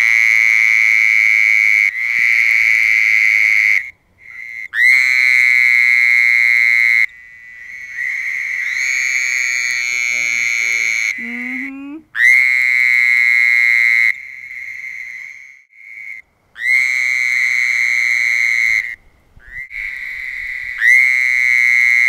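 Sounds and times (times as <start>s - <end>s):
toad trilling: 0.0s - 22.0s.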